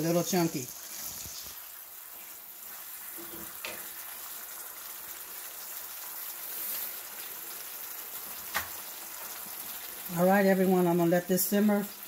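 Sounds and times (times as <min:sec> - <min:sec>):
sauce sizzling in a skillet: 0:00.0 - 0:12.0.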